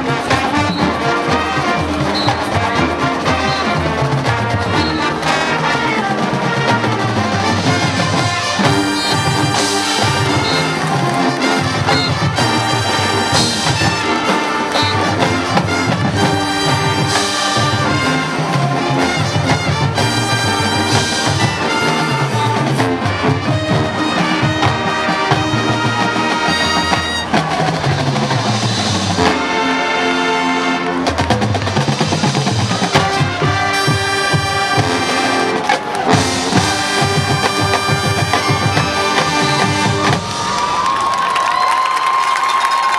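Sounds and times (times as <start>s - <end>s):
marching band playing: 0.0s - 42.9s.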